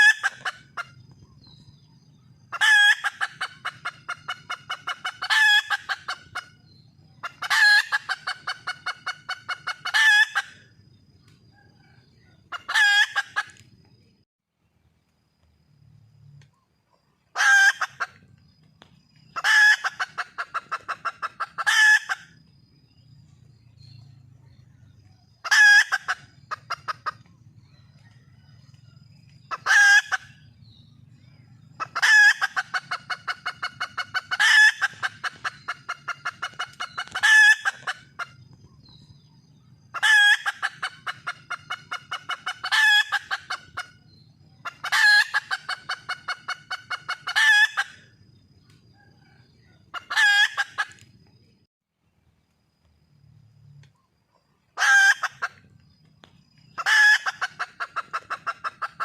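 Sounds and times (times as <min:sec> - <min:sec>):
hen calling and clucking: 0:00.0 - 0:13.8, 0:17.2 - 0:51.2, 0:54.0 - 0:59.0.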